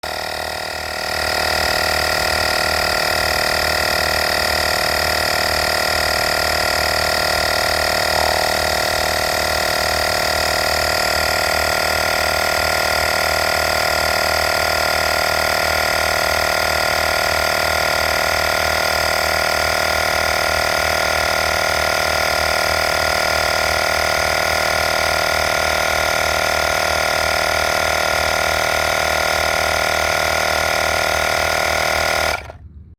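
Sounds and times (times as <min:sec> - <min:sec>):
air compressor whining: 0:00.0 - 0:32.9.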